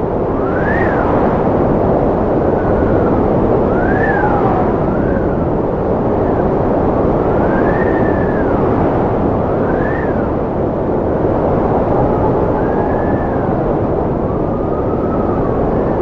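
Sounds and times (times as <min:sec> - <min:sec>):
strong wind howling: 0:00.0 - 0:16.0.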